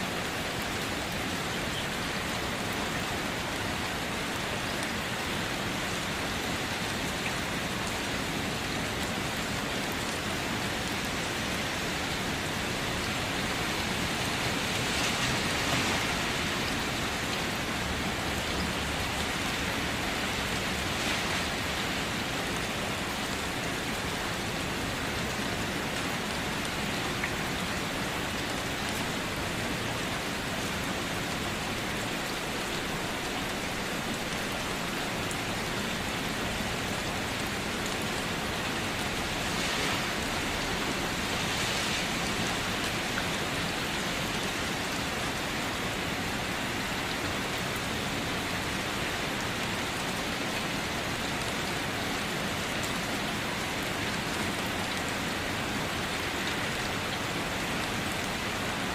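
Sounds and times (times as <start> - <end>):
rain falling on a surface: 0.0 - 58.9.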